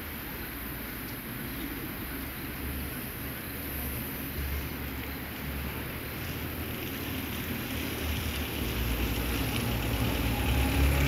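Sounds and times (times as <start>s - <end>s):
vehicle interior rumble: 1.4s - 11.0s.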